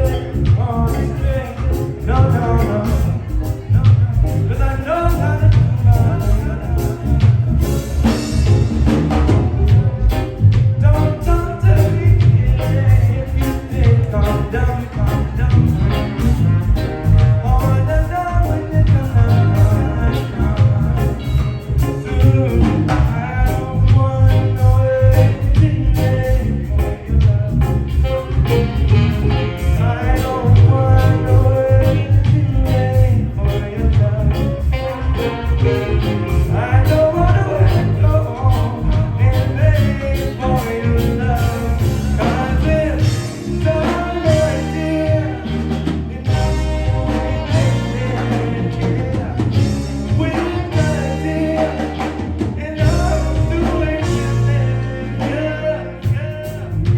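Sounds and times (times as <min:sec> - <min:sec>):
heavy bass line: 0:00.0 - 0:56.9
reggae band playing: 0:00.0 - 0:56.9
steady drum beat: 0:00.0 - 0:56.9.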